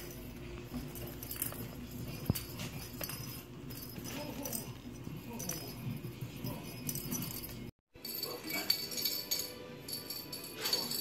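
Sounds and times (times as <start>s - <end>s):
cat toys jingling and rattling: 0.0s - 11.0s.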